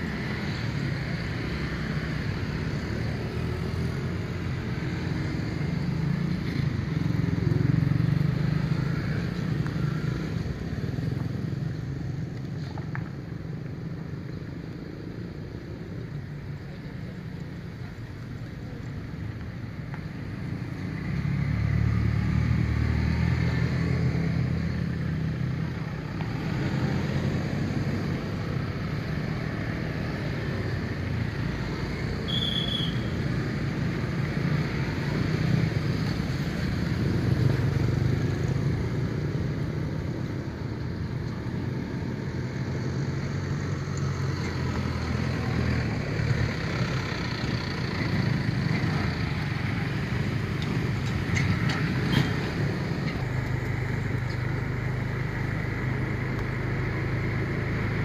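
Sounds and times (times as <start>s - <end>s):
scooters and cars driving past: 0.0s - 58.0s.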